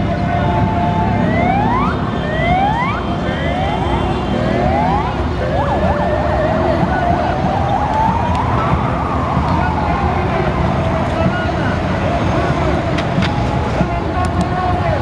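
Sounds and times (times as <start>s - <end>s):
city traffic: 0.0s - 15.0s
emergency siren: 0.0s - 15.0s.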